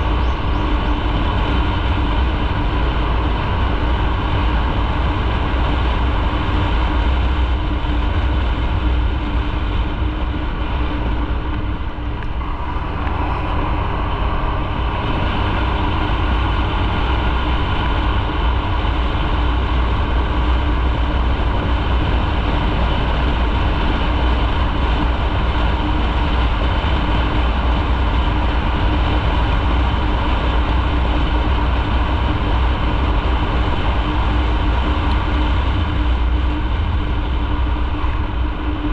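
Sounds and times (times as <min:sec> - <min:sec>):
motorcycle engine hum: 0:00.0 - 0:38.9
wind rumble on microphone: 0:00.0 - 0:38.9.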